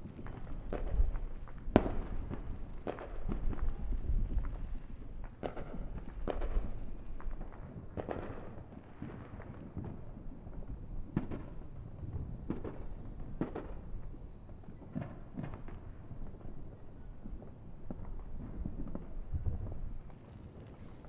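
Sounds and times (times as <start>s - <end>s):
cricket trill: 0.0s - 21.0s
fireworks popping and banging: 0.0s - 21.0s.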